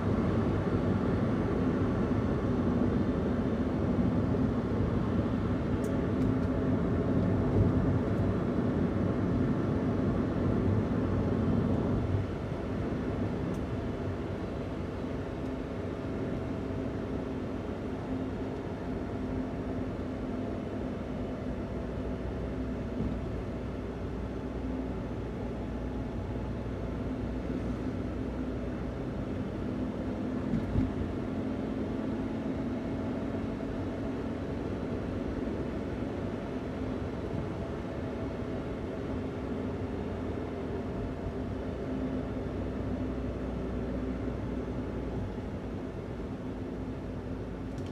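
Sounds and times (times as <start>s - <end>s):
road noise: 0.0s - 47.9s
van engine running: 0.0s - 47.9s.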